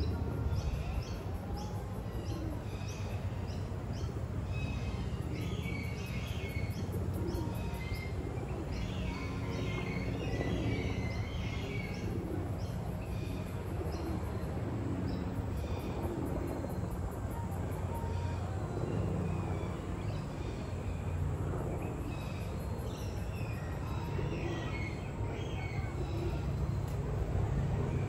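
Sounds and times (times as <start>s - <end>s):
wild birds chirping: 0.0s - 28.0s.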